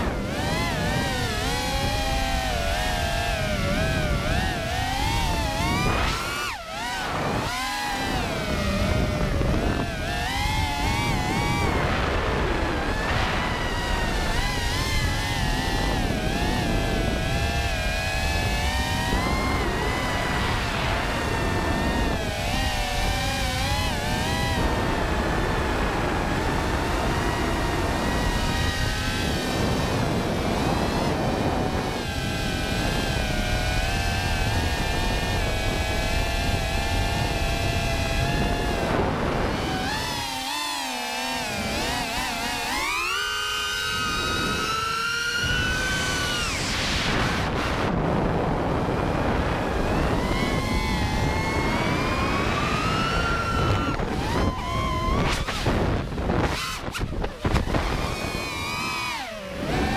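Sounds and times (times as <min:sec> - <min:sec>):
quadcopter motors whining: 0:00.0 - 0:59.9
wind rumble on microphone: 0:00.0 - 0:59.9.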